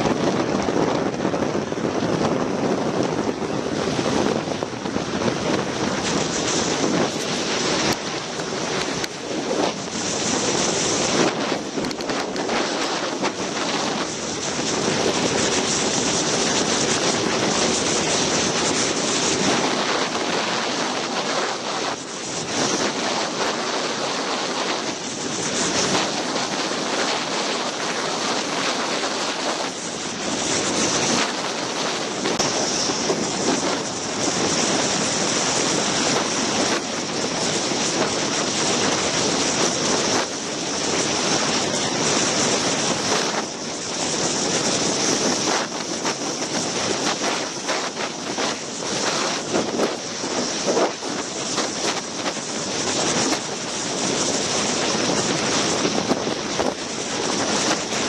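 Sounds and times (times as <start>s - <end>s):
motorcycle and road noise: 0.0s - 58.0s
wind rushing over microphone: 0.0s - 58.0s.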